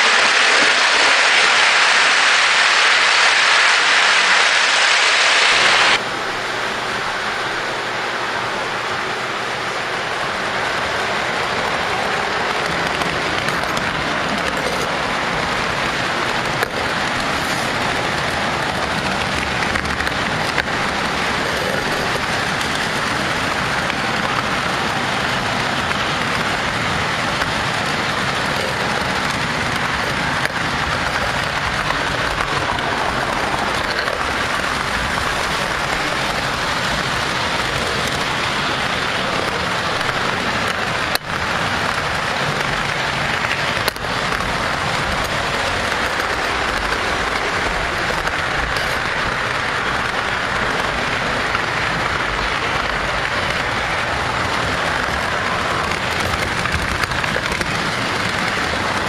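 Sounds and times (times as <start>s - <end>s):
model train wheels rolling on rails: 0.0s - 59.0s.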